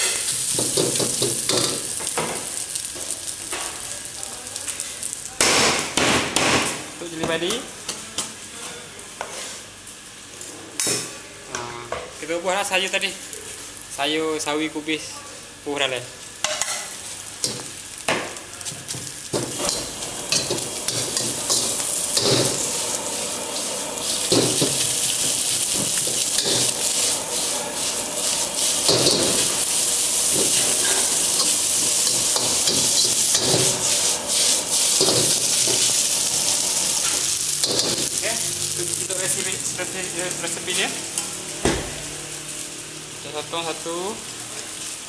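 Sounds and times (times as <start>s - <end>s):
rice sizzling in a wok: 0.0s - 11.4s, 12.1s - 45.0s.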